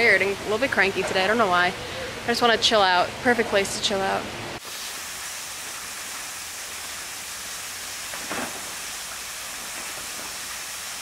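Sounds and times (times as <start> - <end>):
rush of falling water: 0.0 - 11.0.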